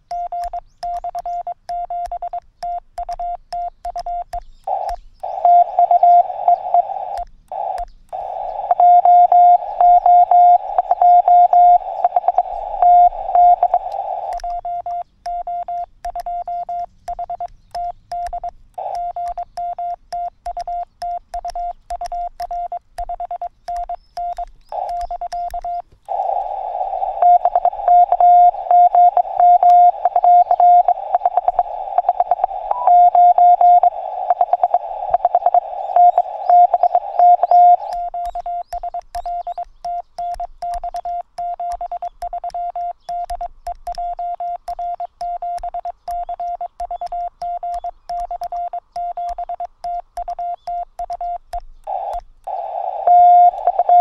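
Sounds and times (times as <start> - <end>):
morse code tone: 0.0 - 54.0
receiver hiss: 0.0 - 54.0.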